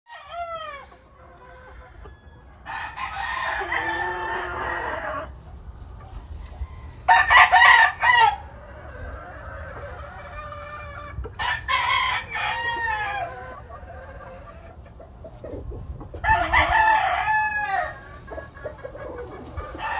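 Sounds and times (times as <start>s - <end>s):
roosters crowing: 0.1s - 5.4s, 6.2s - 14.8s, 16.1s - 19.9s
hens clucking: 0.2s - 19.9s.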